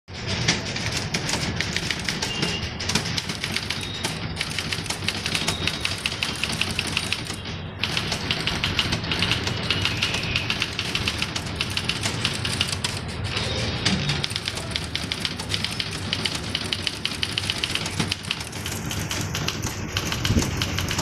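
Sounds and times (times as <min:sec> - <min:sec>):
typewriter keys clicking: 0:00.2 - 0:21.0.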